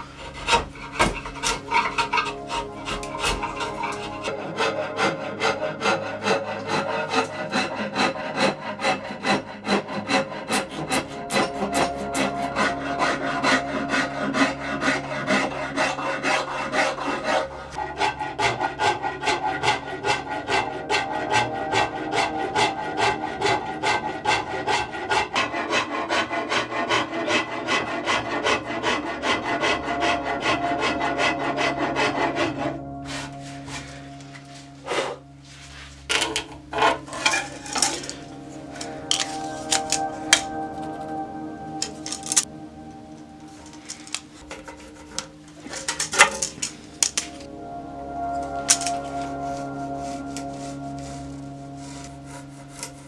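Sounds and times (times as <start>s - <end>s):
hand tool rasping wood: 0.0s - 42.8s, 43.4s - 47.5s, 48.5s - 53.0s.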